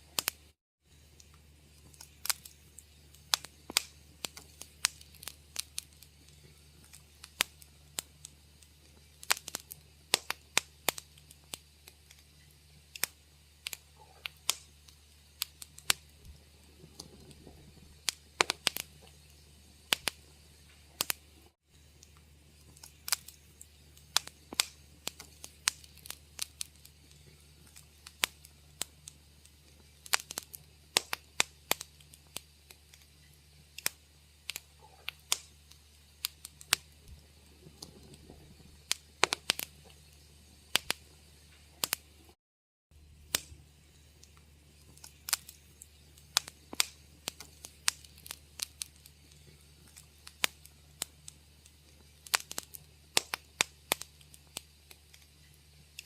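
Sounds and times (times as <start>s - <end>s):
faint low hum: 0.0s - 42.4s, 43.0s - 56.0s
wood fire crackling: 0.0s - 42.4s, 43.0s - 56.0s.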